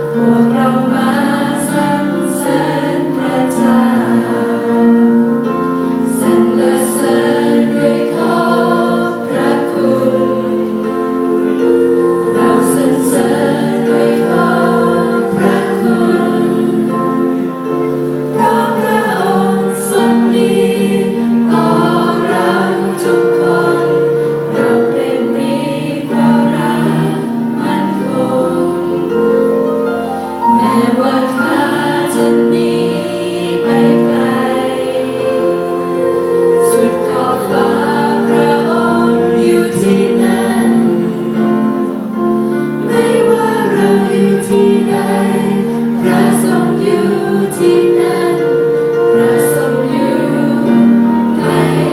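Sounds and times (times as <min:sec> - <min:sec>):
youth choir singing in harmony: 0:00.0 - 0:51.9.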